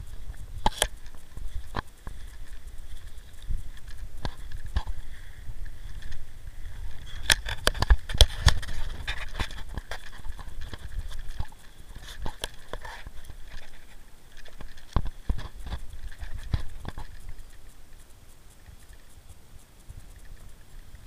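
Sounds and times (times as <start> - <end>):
footsteps crunching on dry brush: 0.0 - 17.8.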